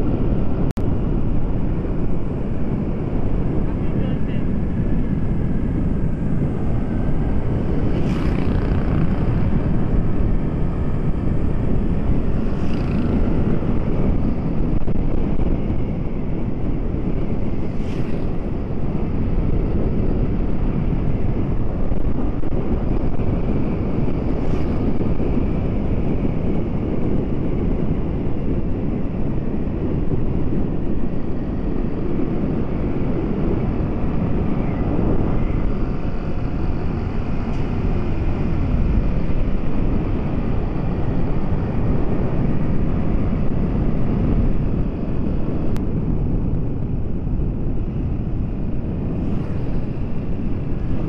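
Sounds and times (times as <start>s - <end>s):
vehicle road and wind rumble: 0.0s - 51.0s.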